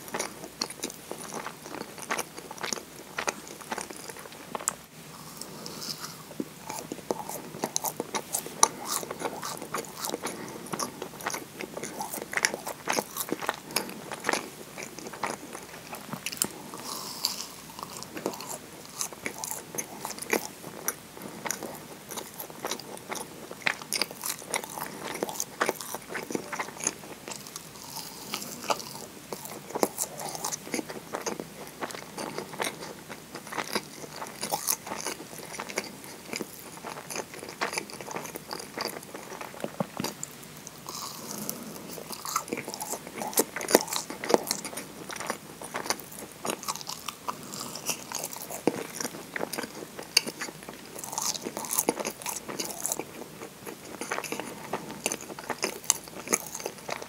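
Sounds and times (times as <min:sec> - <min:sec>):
person biting and chewing: 0:00.1 - 0:57.0.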